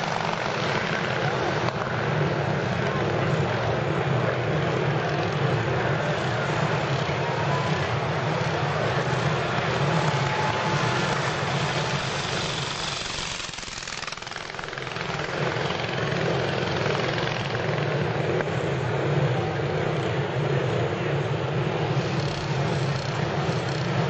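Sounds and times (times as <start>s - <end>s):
loud unmuffled motorcycle engines: 0.0s - 24.0s.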